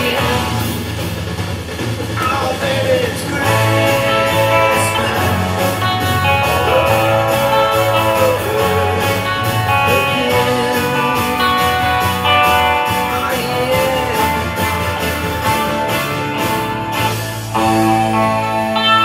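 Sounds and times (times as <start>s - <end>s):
rock band music: 0.0s - 19.0s
sliding lead guitar melody: 3.3s - 19.0s.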